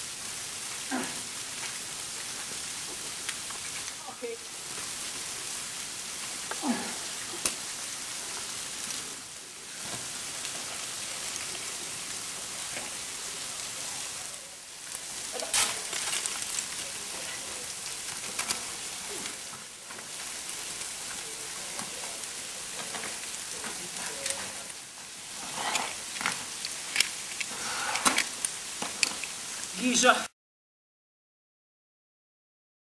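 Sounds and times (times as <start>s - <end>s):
steady hiss: 0.0s - 30.3s.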